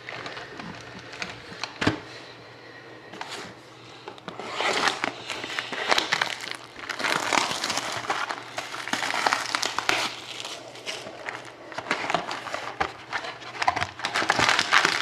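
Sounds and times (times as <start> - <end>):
plastic shrink wrap crinkling: 0.0 - 2.0, 4.1 - 15.0.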